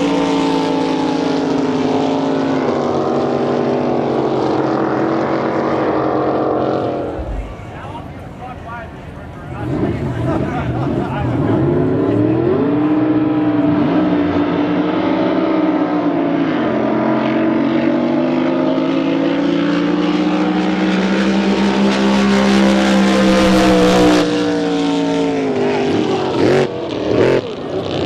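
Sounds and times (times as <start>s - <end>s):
racing boat engine at high revs: 0.0s - 28.0s.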